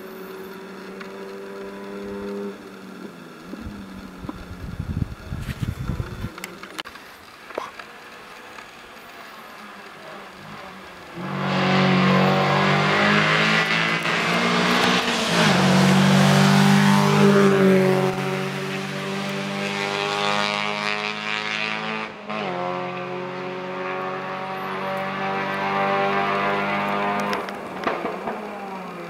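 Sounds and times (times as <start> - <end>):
rally car engine at full throttle: 0.0 - 29.0.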